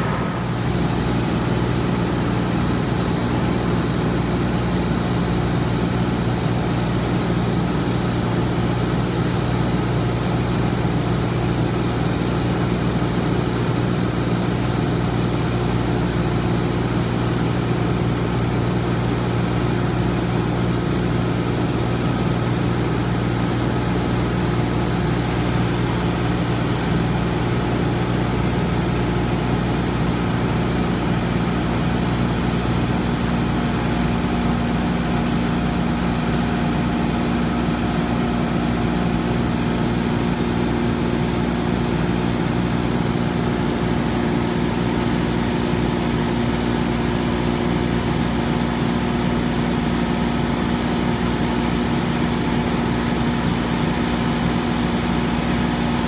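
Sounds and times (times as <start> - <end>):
aircraft engine droning in cabin: 0.0 - 56.0.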